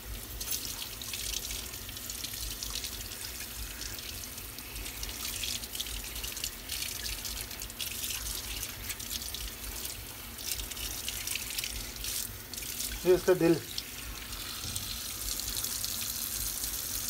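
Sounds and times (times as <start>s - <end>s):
faucet water splashing on fish: 0.0s - 17.0s.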